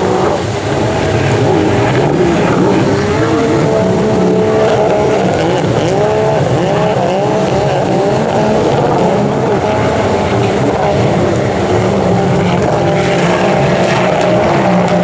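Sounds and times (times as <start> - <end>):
jet ski engines revving: 0.0 - 15.0.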